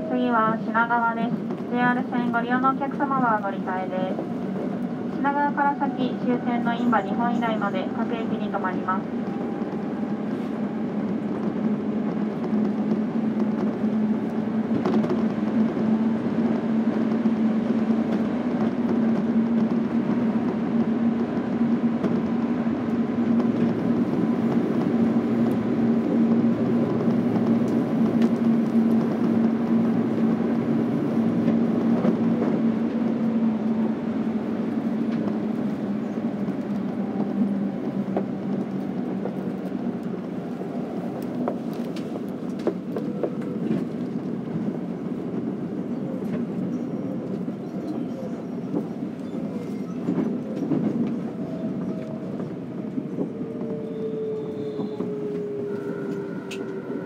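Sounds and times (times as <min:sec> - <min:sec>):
train car rumble: 0:00.0 - 0:57.0.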